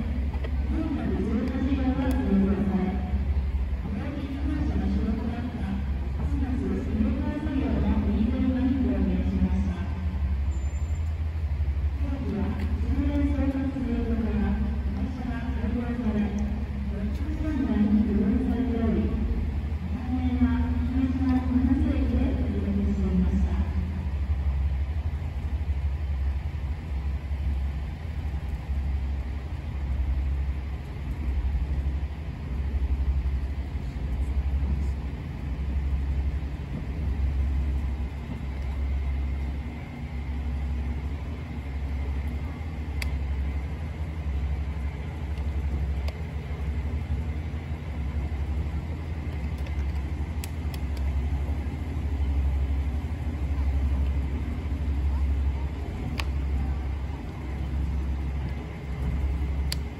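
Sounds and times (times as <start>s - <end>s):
faint high whine: 0.0s - 59.9s
turntable low rumble: 0.0s - 59.9s.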